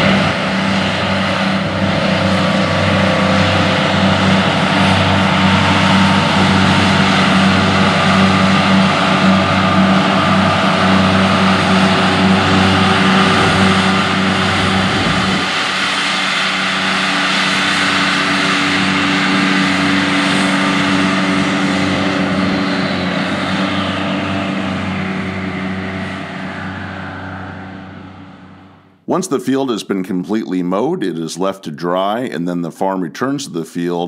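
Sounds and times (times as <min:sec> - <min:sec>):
tractor diesel engine droning: 0:00.0 - 0:34.0.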